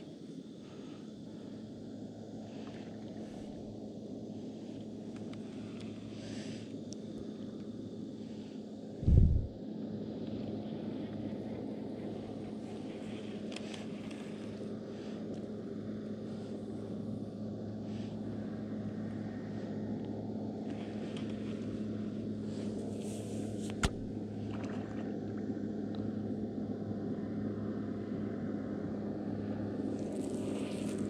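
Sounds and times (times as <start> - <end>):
outboard motor droning: 0.0 - 31.0.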